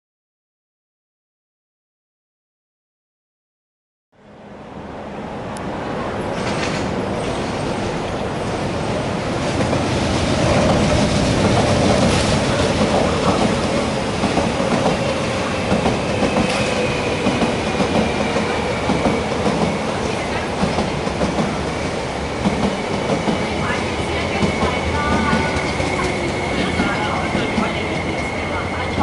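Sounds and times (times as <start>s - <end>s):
electric train passing: 4.2s - 29.0s.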